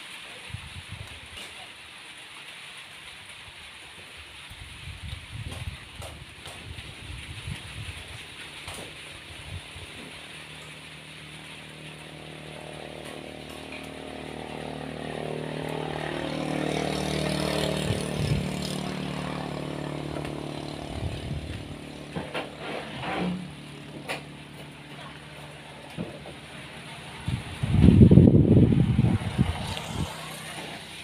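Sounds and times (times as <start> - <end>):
engine passing by: 6.0 - 31.0.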